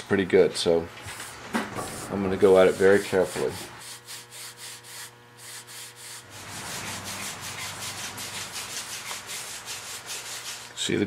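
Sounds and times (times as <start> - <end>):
cloth rubbing on wood: 1.0 - 10.8.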